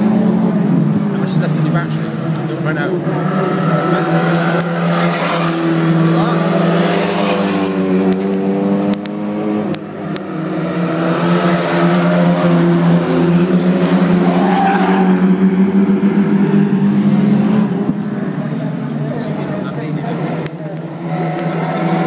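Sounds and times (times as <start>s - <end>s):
racing cars lapping at speed: 0.0s - 22.0s.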